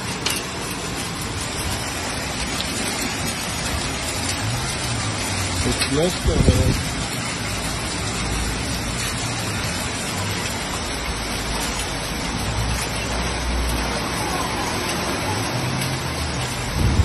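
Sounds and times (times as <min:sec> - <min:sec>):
heavy rain hissing: 0:00.0 - 0:17.0
rushing floodwater: 0:00.0 - 0:17.0.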